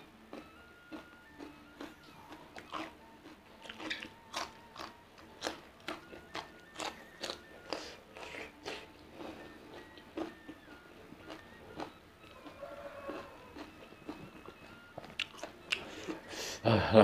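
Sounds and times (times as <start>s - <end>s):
chewing crunchy raw vegetables: 0.0s - 16.3s.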